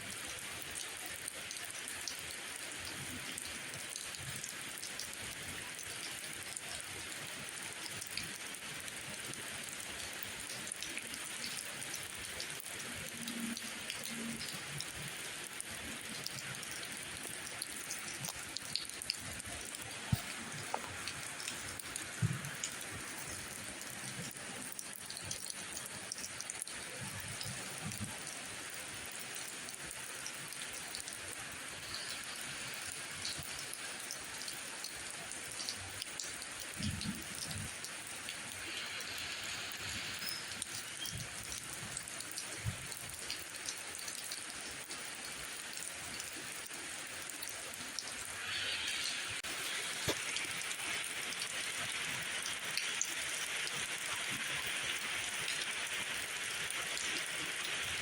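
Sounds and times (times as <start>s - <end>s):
steady rain falling: 0.0s - 58.0s
heavier raindrops: 0.1s - 58.0s.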